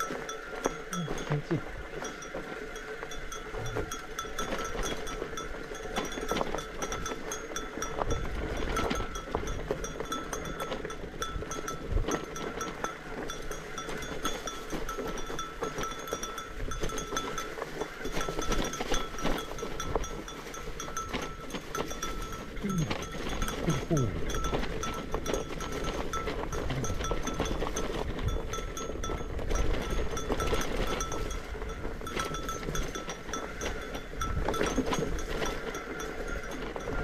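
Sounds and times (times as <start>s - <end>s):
bike rattling on dirt trail: 0.0s - 37.0s
small bell jingling: 0.0s - 37.0s.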